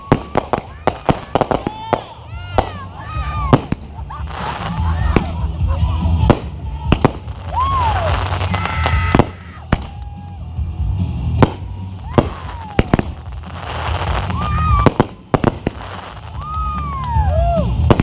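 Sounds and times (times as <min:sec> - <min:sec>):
fireworks bangs and crackles: 0:00.0 - 0:10.2, 0:11.1 - 0:18.0
background music with bass: 0:00.0 - 0:18.0.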